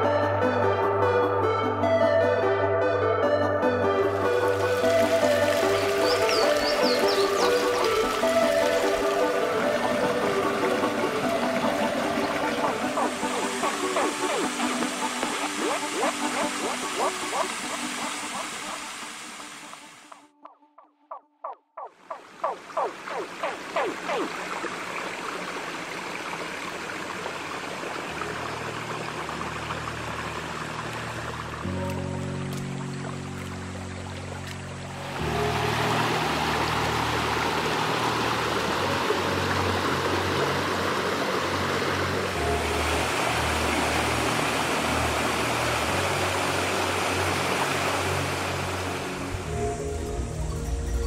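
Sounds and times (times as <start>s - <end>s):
low steady background music: 0.0s - 21.8s, 27.3s - 51.0s
water rushing over stones: 4.1s - 20.2s, 22.0s - 50.9s.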